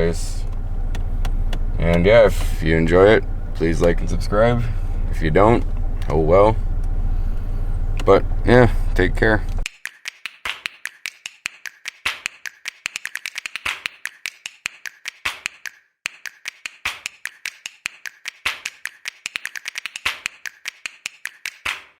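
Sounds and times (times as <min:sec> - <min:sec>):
sharp ticks and taps: 0:00.0 - 0:08.7, 0:09.5 - 0:21.8.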